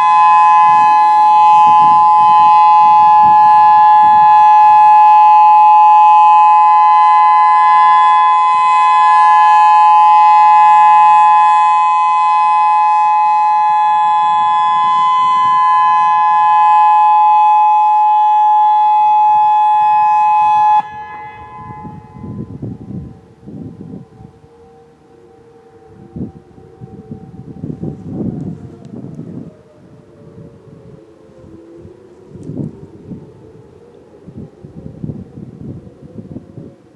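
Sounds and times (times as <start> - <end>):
electronic warning siren steady tone: 0.0 - 36.9
faint steady tones: 0.0 - 36.9.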